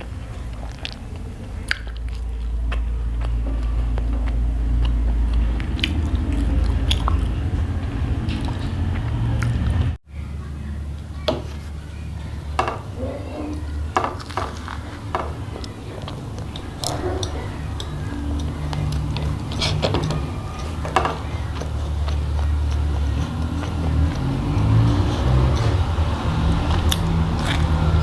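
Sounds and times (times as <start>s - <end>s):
chewing and mouth sounds: 0.0s - 9.8s, 13.1s - 28.0s
low hum: 0.0s - 28.0s.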